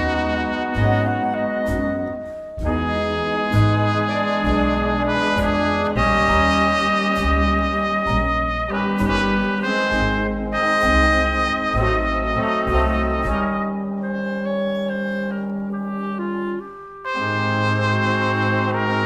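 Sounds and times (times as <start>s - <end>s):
brass music with pulsing bass: 0.0s - 19.0s.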